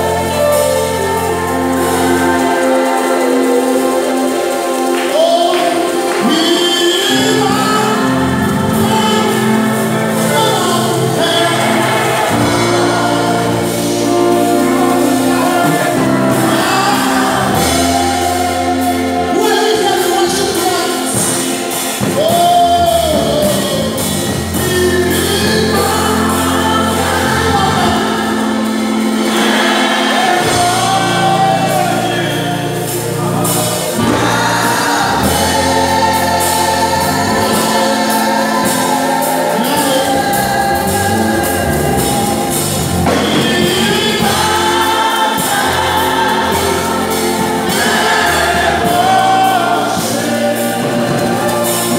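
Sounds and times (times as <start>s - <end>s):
amplified band playing: 0.0s - 51.9s
choir singing: 0.0s - 51.9s
long held bass notes: 0.0s - 51.9s
man singing into microphone: 0.0s - 51.9s.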